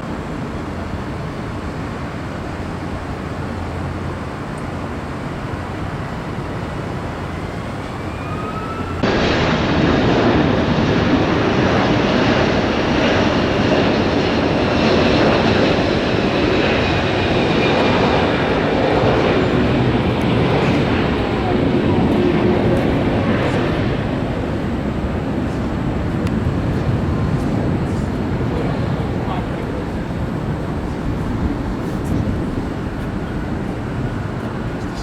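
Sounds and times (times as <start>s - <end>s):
high engine whine: 0.0s - 35.0s
jet engines rushing: 0.0s - 35.0s.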